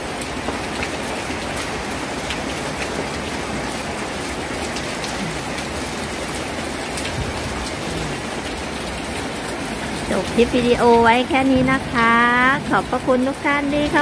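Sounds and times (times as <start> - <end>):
heavy rain hiss: 0.0 - 14.0.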